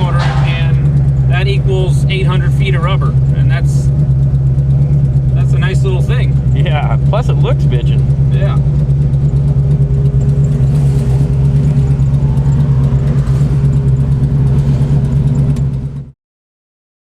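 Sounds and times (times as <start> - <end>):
vee-eight engine running: 0.0 - 16.2.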